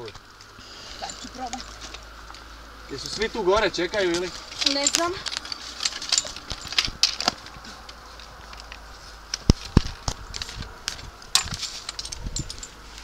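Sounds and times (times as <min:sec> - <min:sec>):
hikers climbing over rock: 0:00.0 - 0:13.0.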